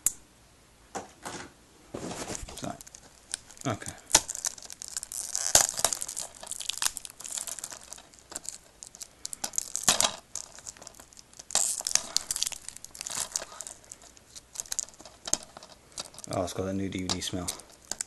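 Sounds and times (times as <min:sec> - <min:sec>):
plastic wrap crinkling and tearing: 0:02.0 - 0:18.0.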